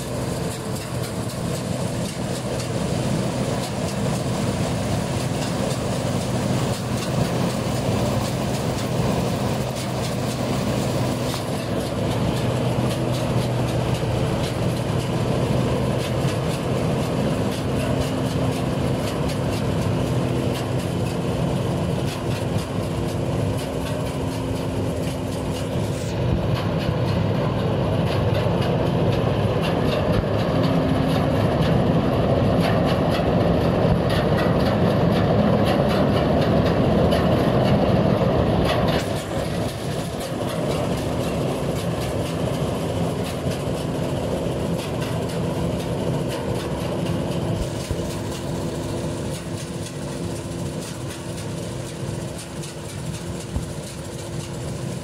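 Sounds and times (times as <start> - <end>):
combine harvester engine drone: 0.0 - 55.0
harvester machinery rattling: 0.0 - 55.0.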